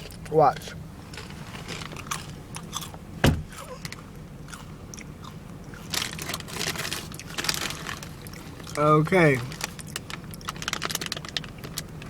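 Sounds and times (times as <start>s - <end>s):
chewing crunchy chips: 0.0s - 12.0s
low steady hum: 0.0s - 12.0s.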